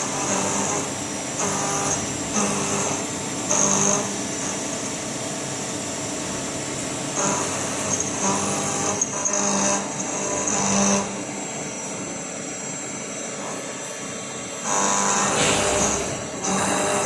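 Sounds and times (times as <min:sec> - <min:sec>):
machining center high whine: 0:00.0 - 0:17.0.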